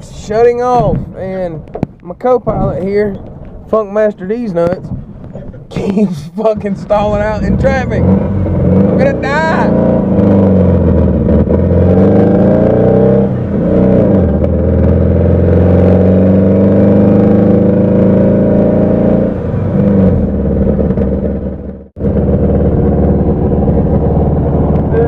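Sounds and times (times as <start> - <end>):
car engine pulling: 0.0 - 25.0.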